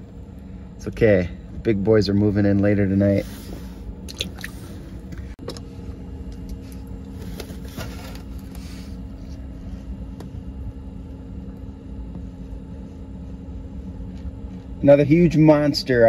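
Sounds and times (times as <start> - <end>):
low rumble with faint hum: 0.0 - 16.0.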